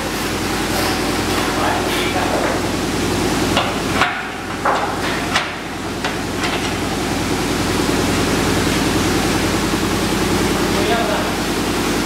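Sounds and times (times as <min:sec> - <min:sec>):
machinery hiss and hum: 0:00.0 - 0:12.0.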